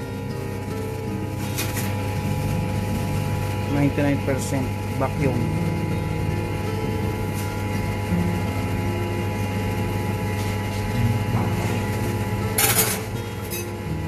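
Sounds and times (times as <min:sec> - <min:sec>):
vacuum pump running: 0:00.0 - 0:14.0.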